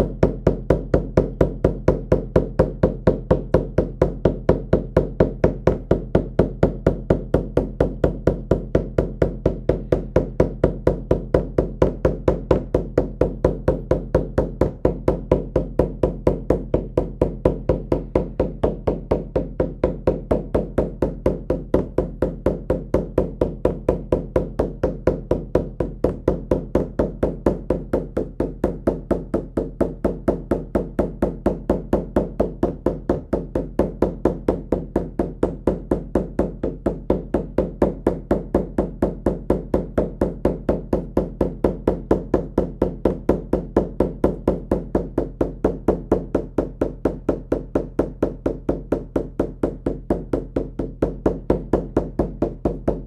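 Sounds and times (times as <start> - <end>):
hand drum steady beat: 0.0 - 53.0.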